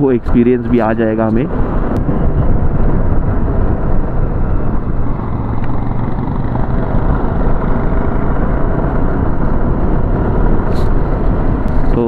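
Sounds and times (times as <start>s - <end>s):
wind noise on microphone: 0.0s - 12.0s
motorcycle engine running: 1.5s - 12.0s.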